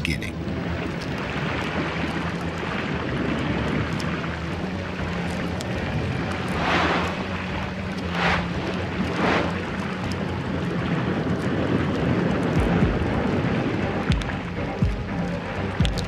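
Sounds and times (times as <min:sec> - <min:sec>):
muffled underwater churning water: 0:00.0 - 0:16.0.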